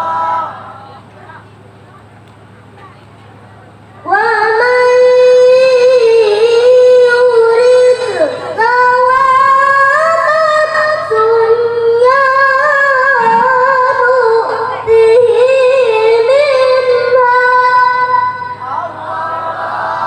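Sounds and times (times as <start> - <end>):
boy reciting melodically over speakers: 3.8 - 20.0.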